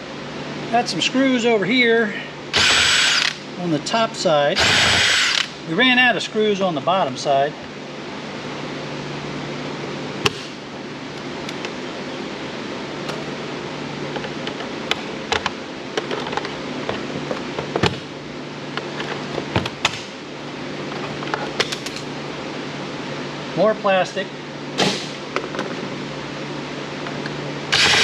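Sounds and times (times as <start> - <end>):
fan humming: 0.0 - 28.0.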